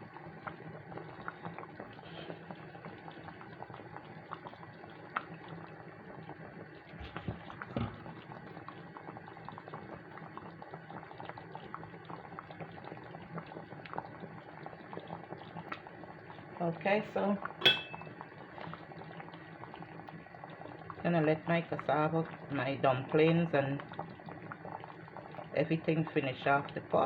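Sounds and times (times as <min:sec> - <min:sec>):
soup boiling and bubbling: 0:00.0 - 0:27.0.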